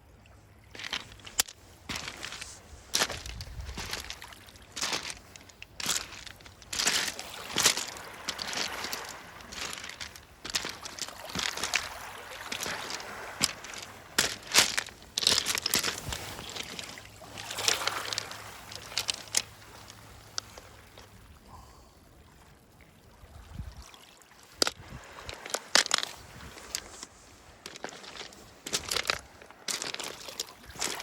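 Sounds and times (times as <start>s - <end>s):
pebbles clicking and knocking: 0.8s - 20.6s, 24.6s - 31.0s
small waves washing in: 0.8s - 21.4s, 22.2s - 31.0s.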